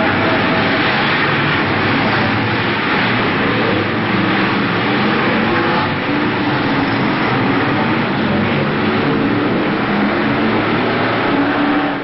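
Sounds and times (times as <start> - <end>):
racing car engines droning: 0.0 - 12.0.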